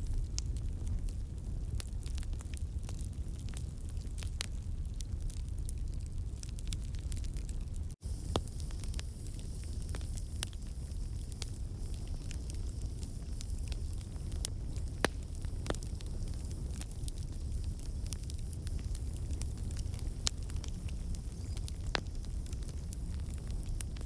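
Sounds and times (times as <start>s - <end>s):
low fire rumble: 0.0s - 24.0s
campfire crackling and popping: 0.1s - 24.0s.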